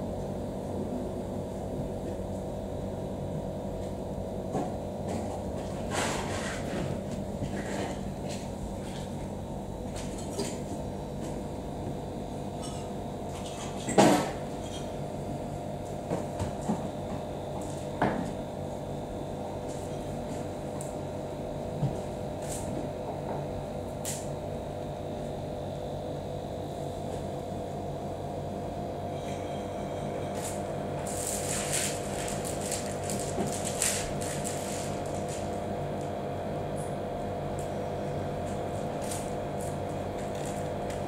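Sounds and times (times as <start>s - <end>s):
room hum: 0.0s - 41.0s.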